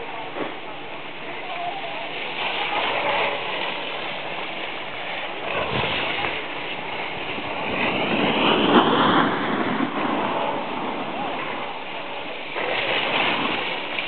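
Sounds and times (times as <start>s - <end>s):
skis scraping over packed snow: 0.0s - 14.0s
wind on microphone: 2.0s - 14.0s.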